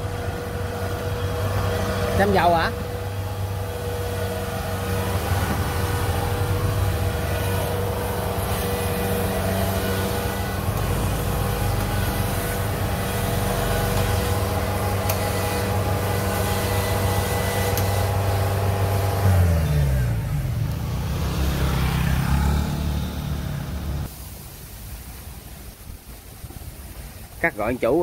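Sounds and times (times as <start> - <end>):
diesel engine running: 0.0 - 24.1.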